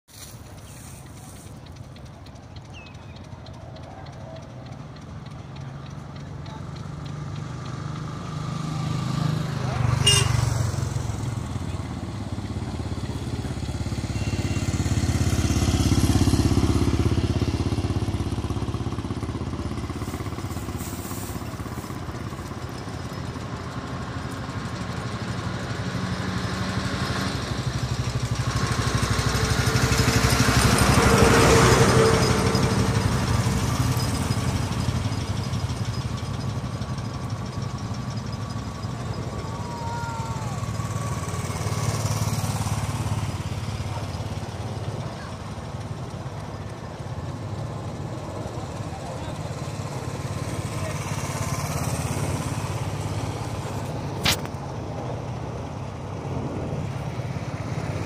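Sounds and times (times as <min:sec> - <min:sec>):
motorcycles riding past: 0:00.2 - 0:58.0.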